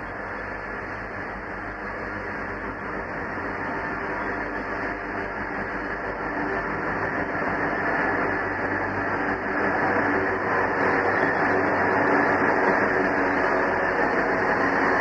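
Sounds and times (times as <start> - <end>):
diesel locomotive engines: 0.0 - 15.0
freight train rumbling: 0.0 - 15.0.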